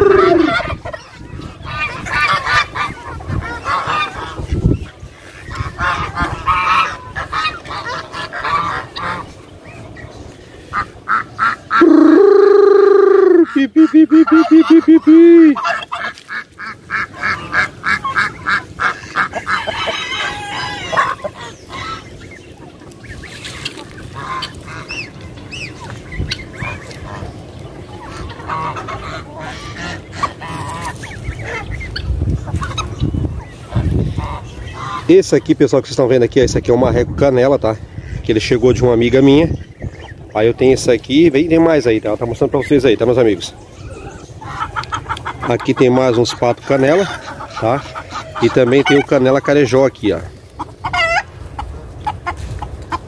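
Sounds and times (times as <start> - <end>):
chickens and ducks calling: 0.0 - 53.0.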